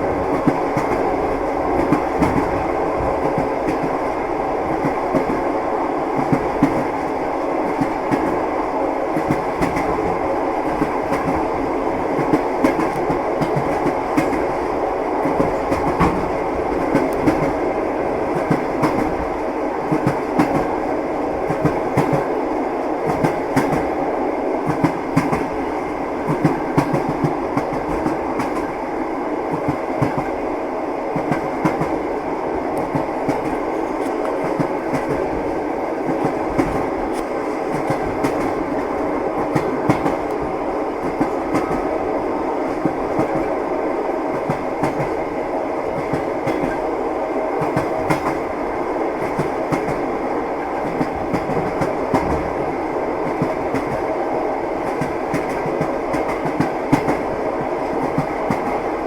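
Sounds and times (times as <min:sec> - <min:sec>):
train wheels clattering on track: 0:00.0 - 0:30.5, 0:31.1 - 0:43.7, 0:44.3 - 0:59.0.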